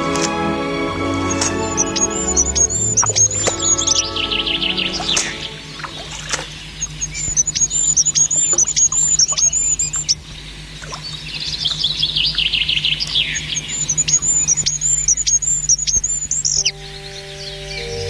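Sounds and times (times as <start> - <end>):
songbirds chirping: 0.0 - 18.0
rapid bird twittering: 1.6 - 18.0.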